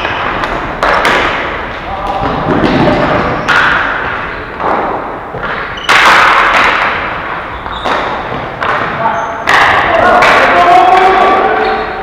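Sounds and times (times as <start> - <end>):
ball and sticks hitting boards: 0.0 - 11.5.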